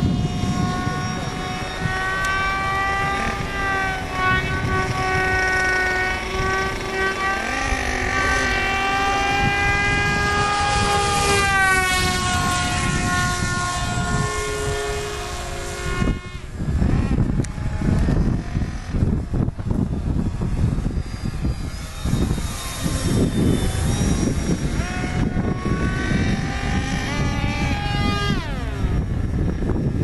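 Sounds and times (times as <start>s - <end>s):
electric motor and propeller whining: 0.0s - 30.0s.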